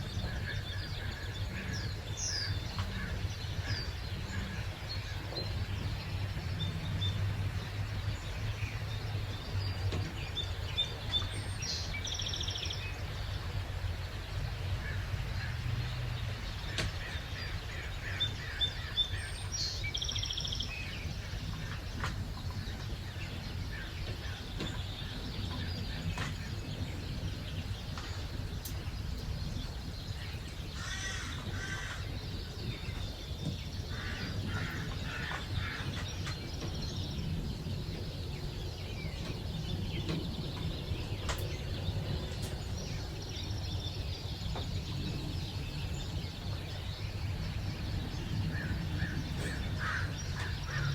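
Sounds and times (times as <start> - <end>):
low background rumble: 0.0 - 50.9
songbirds chirping: 0.0 - 50.9.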